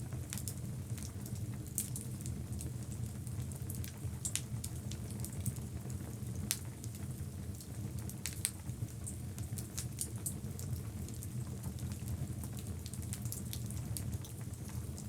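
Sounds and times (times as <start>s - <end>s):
log fire crackling and popping: 0.1s - 15.0s.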